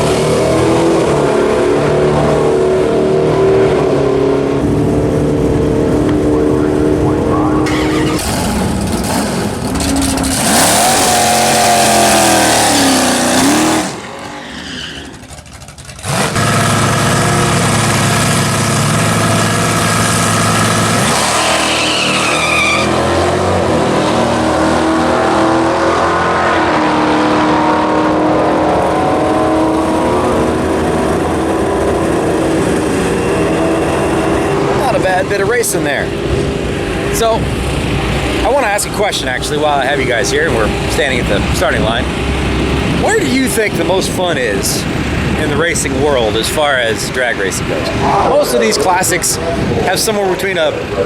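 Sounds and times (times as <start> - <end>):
drag racing engines at full throttle: 0.0 - 51.0.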